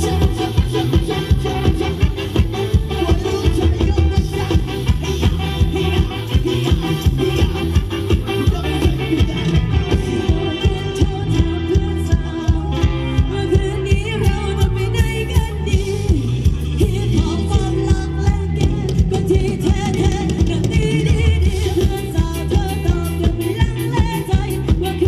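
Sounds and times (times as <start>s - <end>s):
live band playing dance music: 0.0s - 25.0s
person singing: 0.0s - 25.0s.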